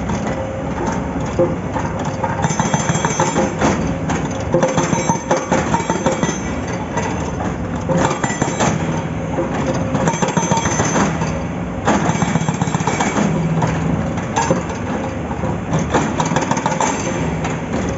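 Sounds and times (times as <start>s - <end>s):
metallic knocks and clanks: 0.0s - 17.9s.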